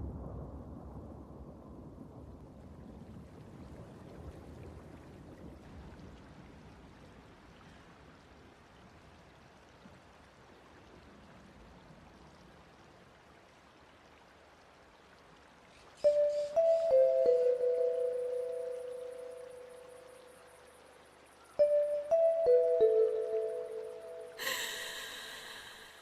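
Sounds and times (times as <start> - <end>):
faint low background noise: 0.0 - 26.0.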